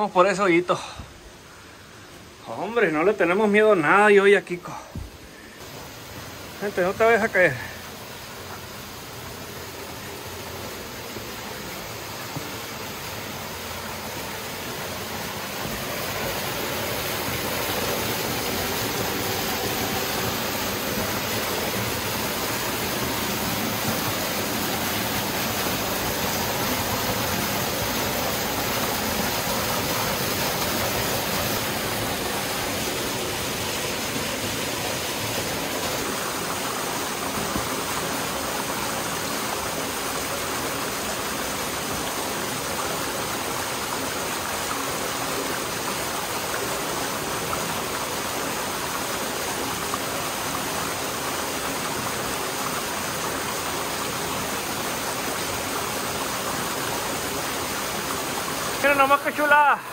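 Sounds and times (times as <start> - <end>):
waterfall splashing into pool: 4.9 - 59.9.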